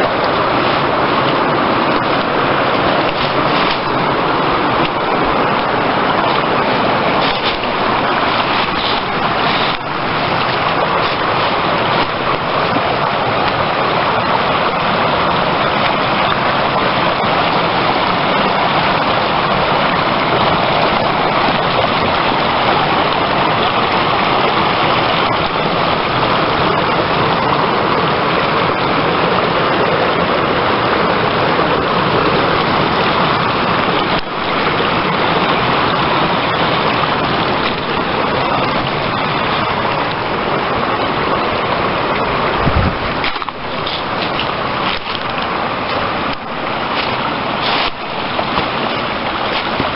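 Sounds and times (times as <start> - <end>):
stream running over rocks: 0.0 - 49.9.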